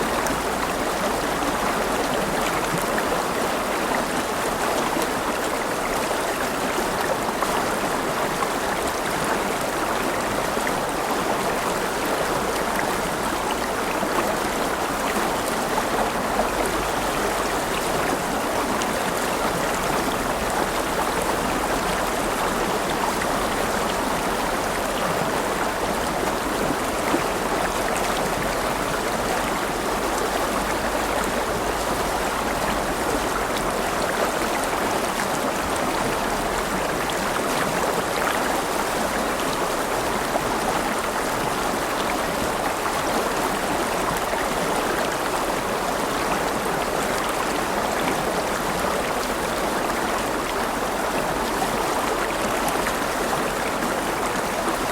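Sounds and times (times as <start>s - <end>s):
river water running over stones: 0.0s - 54.9s.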